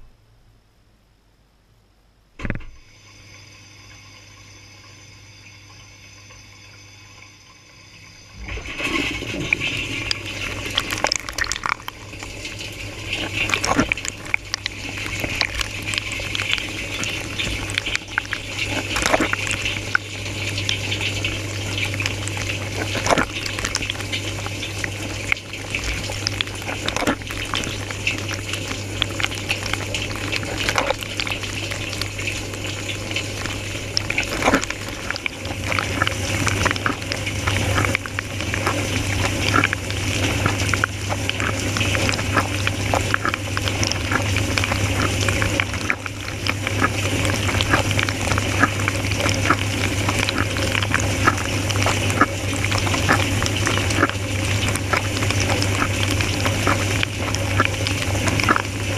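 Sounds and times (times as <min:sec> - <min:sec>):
dishwasher low hum: 0:00.0 - 0:00.6, 0:02.4 - 0:58.9
dishwasher water jets spraying: 0:08.4 - 0:58.9.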